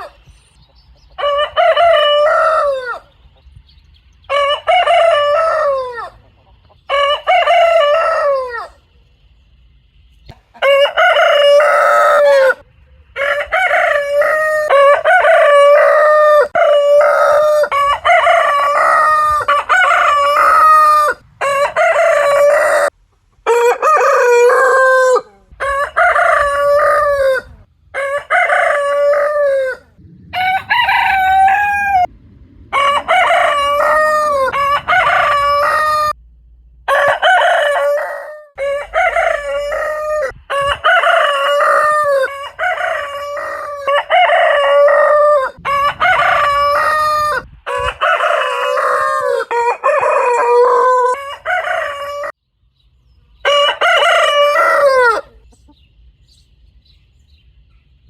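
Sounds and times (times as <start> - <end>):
roosters crowing: 1.1 - 3.3, 4.2 - 9.0, 10.3 - 36.2, 36.8 - 52.4, 53.4 - 55.7.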